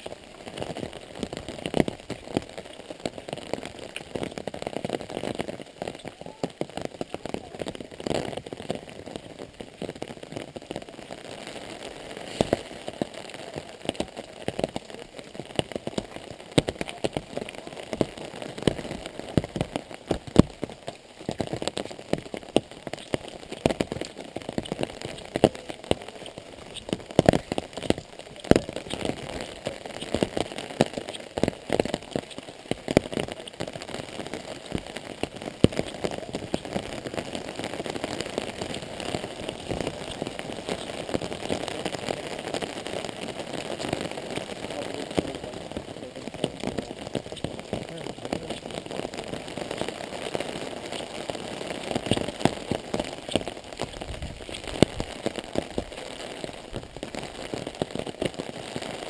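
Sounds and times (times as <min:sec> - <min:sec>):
heavy raindrops tapping: 0:00.0 - 0:59.0
rain pattering: 0:00.0 - 0:59.0.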